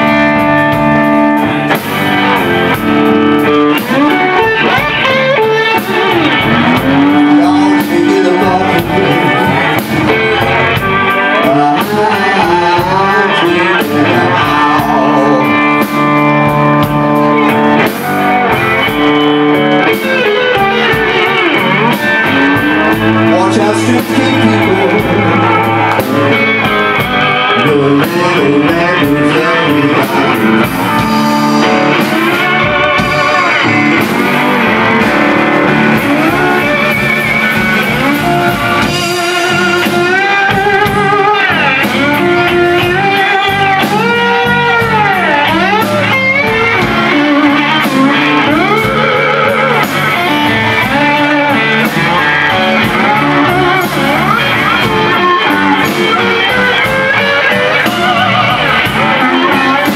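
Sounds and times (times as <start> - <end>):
bass guitar: 0.0 - 59.9
drums: 0.0 - 59.9
electric slide guitar: 0.0 - 59.9.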